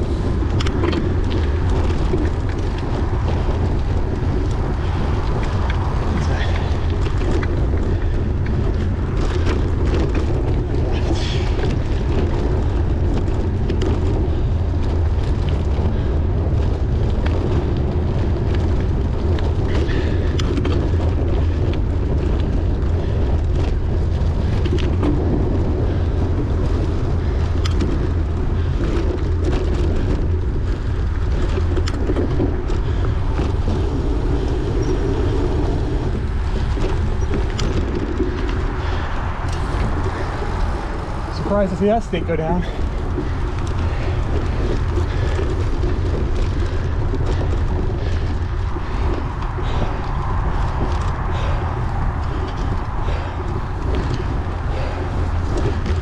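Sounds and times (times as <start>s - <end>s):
bicycle clicks and rattles: 0.0s - 56.0s
wind buffeting microphone: 0.0s - 56.0s.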